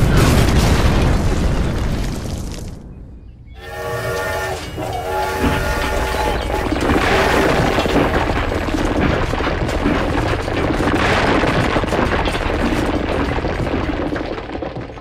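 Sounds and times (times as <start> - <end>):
ground collapsing rumble: 0.0 - 15.0.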